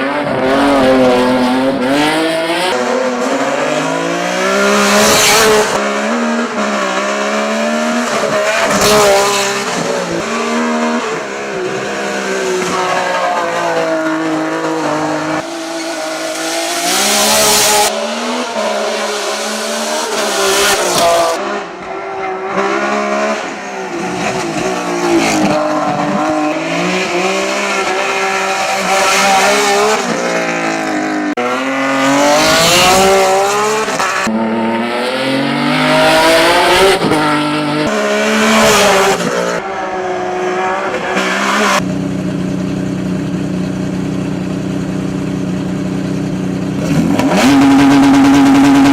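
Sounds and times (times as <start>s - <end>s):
race car engines revving: 0.0s - 48.9s.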